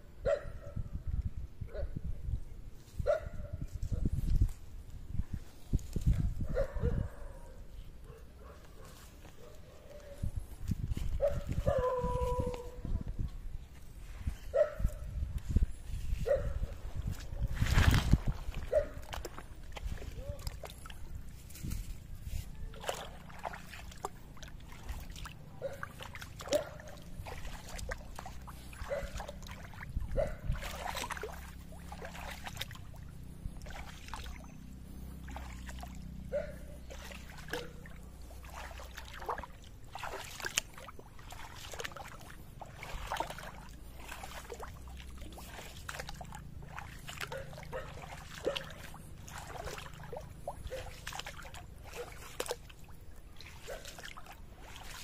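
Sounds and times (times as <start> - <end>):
low steady rumble: 0.0 - 55.0
water splashing and trickling: 7.6 - 55.0.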